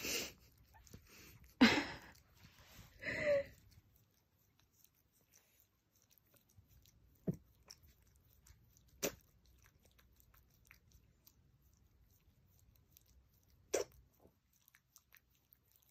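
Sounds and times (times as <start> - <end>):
dog licking and smacking: 0.2 - 15.9.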